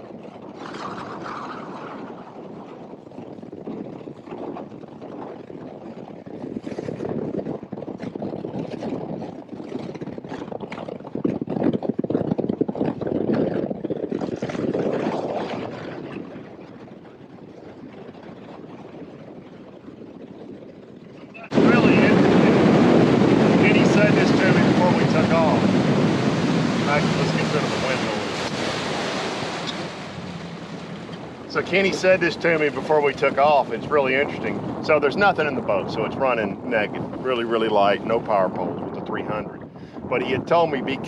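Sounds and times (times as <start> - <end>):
boat outboard motor running fast: 0.0 - 41.0
rush of wind and water: 0.0 - 41.0.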